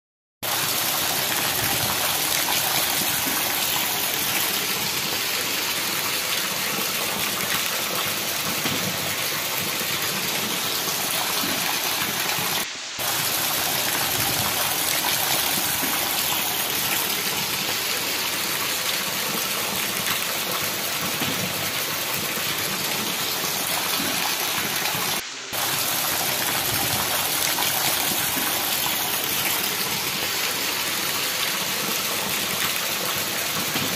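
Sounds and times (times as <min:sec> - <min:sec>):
heavy rain pouring: 0:00.4 - 0:33.9
rainwater running over ground: 0:00.4 - 0:33.9.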